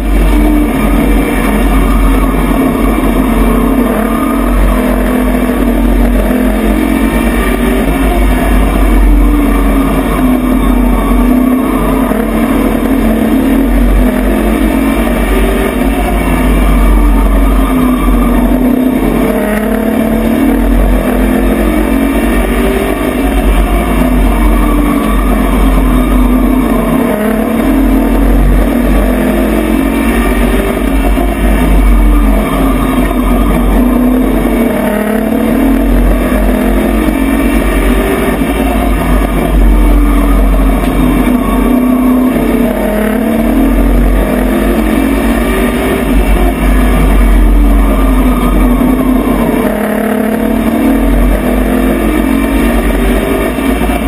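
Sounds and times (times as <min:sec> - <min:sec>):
race truck engine revving: 0:00.0 - 0:54.0
wind and chassis noise: 0:00.0 - 0:54.0.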